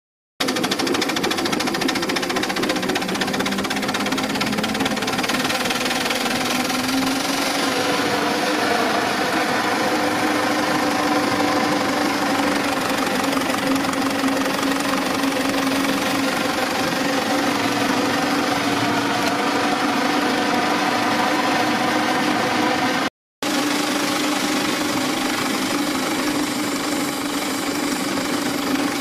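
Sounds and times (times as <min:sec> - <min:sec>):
miniature steam locomotive running: 0:00.4 - 0:29.0
steady hum: 0:01.5 - 0:29.0.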